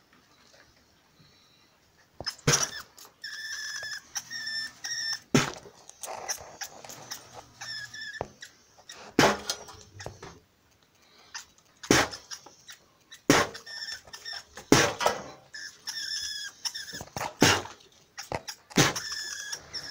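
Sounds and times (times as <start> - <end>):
rat squeaking: 2.2 - 10.4, 11.0 - 19.9.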